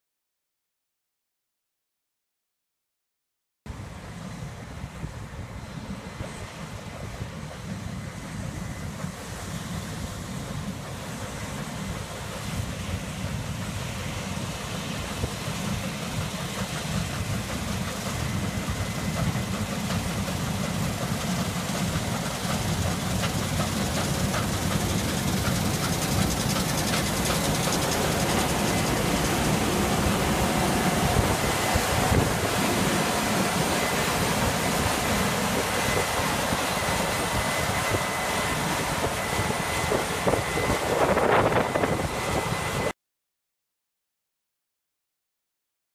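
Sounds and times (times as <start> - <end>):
combine harvester rumbling: 4.8 - 42.9.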